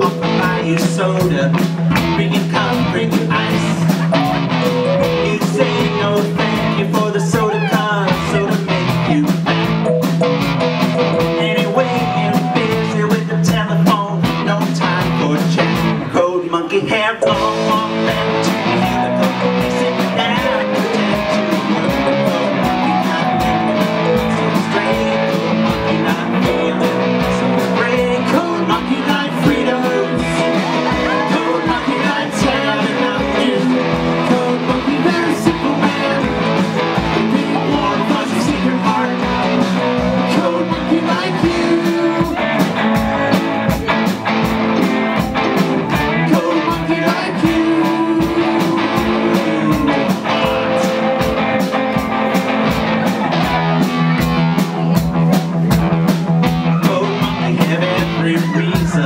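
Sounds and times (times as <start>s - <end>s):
man singing into microphone: 0.0s - 4.3s, 4.9s - 9.6s, 11.0s - 44.1s, 46.1s - 51.7s, 56.6s - 59.0s
drum kit beat: 0.0s - 16.1s, 17.2s - 59.0s
live rock band playing: 0.0s - 16.3s, 17.2s - 59.0s.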